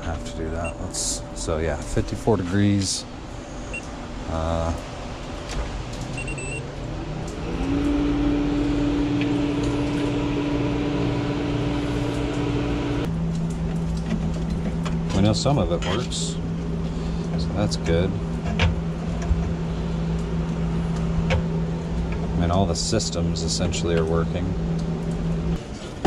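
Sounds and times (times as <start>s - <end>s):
refrigeration unit humming: 0.0s - 26.0s.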